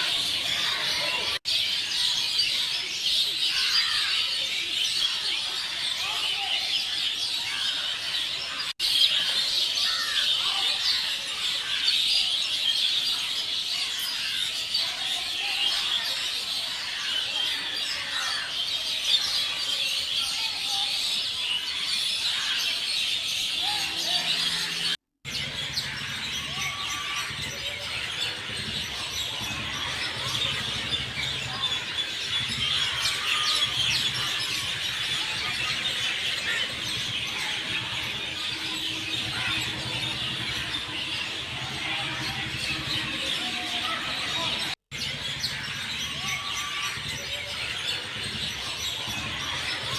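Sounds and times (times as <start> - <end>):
bird chirps and calls: 0.0 - 49.9.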